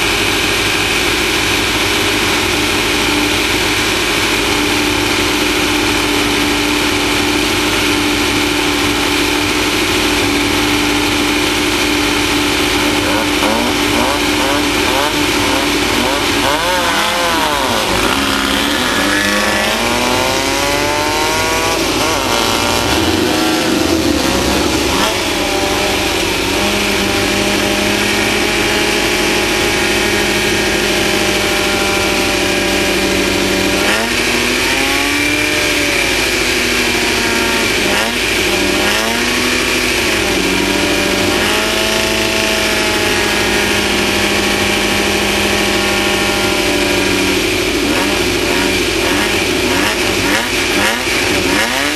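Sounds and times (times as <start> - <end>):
race vehicle engine running hard: 0.0 - 51.9.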